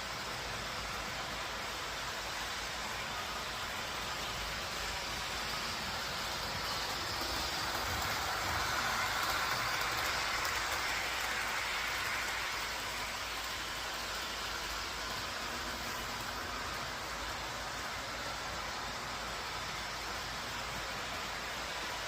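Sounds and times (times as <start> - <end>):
train rushing past: 0.0 - 22.0.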